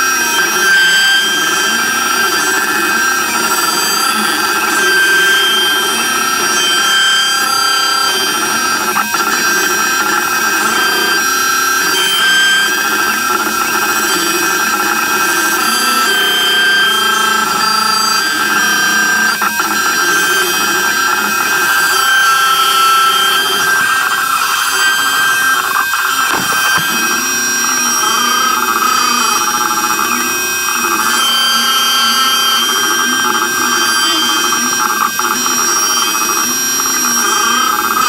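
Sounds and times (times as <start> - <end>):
router spindle high whine: 0.0 - 38.0
stepper motors humming: 0.0 - 38.0.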